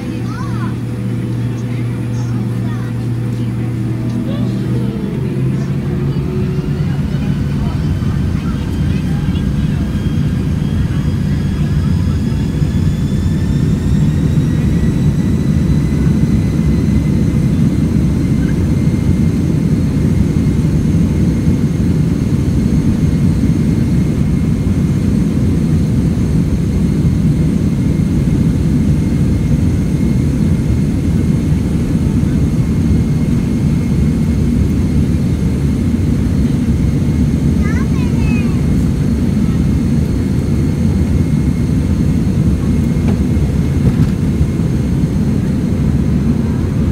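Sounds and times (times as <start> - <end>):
jet engines roaring in cabin: 0.0 - 46.9.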